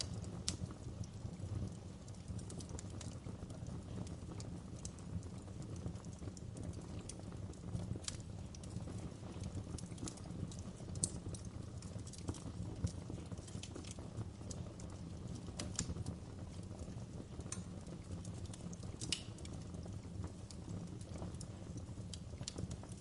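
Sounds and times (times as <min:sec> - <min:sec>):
burning logs popping: 0:00.0 - 0:23.0
wood fire crackling: 0:00.0 - 0:23.0.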